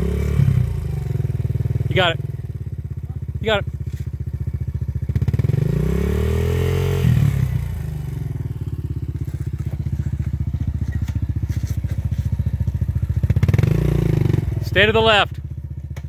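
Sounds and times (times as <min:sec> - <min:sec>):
dirt bike engine revving: 0:00.0 - 0:02.7, 0:03.3 - 0:15.4.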